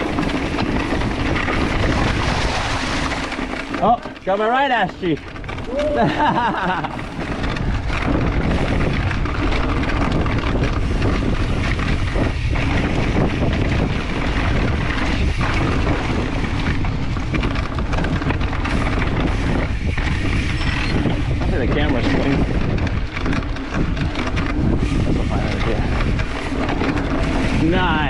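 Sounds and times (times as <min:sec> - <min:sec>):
bike rumbling over trail: 0:00.0 - 0:28.0
wind buffeting microphone: 0:00.0 - 0:28.0.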